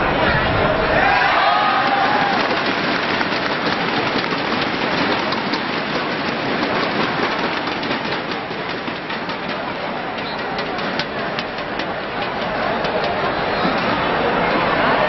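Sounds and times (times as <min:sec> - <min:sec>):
crowd applauding: 0:00.9 - 0:15.0.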